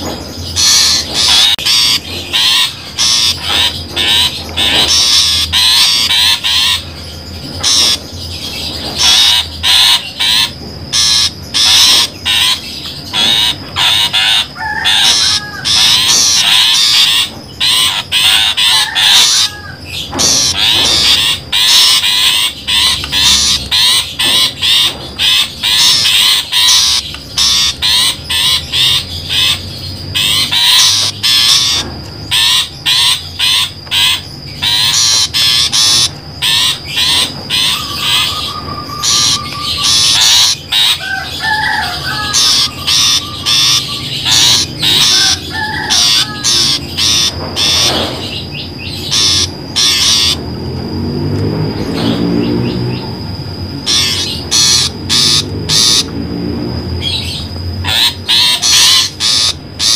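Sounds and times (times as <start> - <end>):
scratchy bird calls: 0.0 - 50.9, 51.5 - 59.9
low warbled bird phrases: 0.0 - 59.9.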